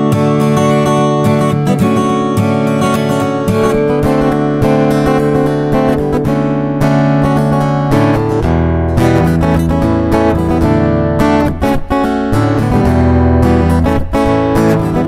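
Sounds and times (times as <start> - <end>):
acoustic guitar chords strummed: 0.0 - 15.0.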